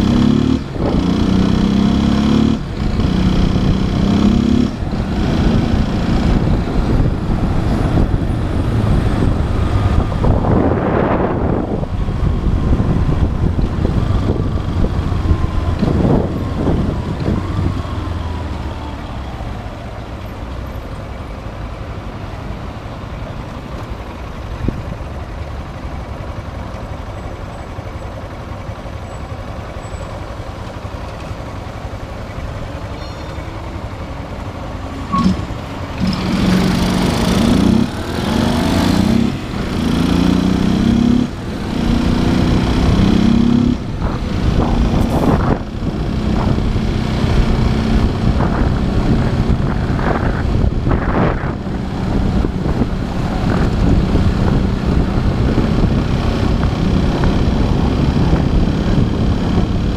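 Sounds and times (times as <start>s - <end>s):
motorcycle engine and road noise: 0.0s - 59.9s.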